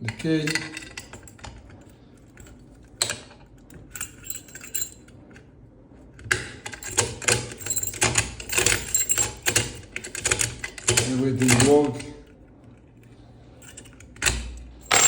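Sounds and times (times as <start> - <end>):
key turning in lock: 0.0 - 5.5, 6.1 - 15.0
lock mechanism clicking and rattling: 0.0 - 5.5, 6.1 - 15.0.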